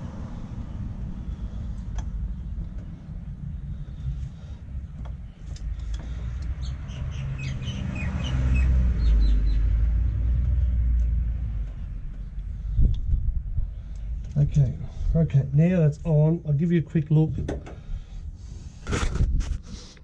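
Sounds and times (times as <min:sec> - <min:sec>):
low rumble: 0:00.0 - 0:19.6.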